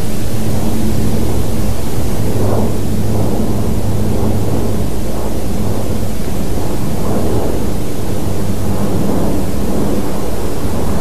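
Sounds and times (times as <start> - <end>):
airplane engine drone: 0.0 - 11.0.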